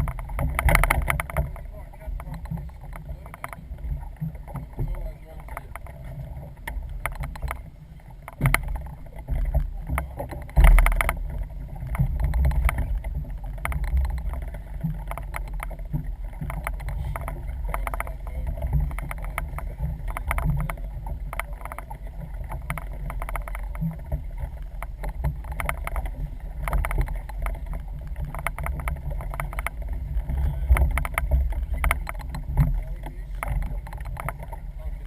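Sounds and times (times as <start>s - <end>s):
knocks and clicks: 0.0s - 35.0s
wind and water rumble: 0.0s - 35.0s.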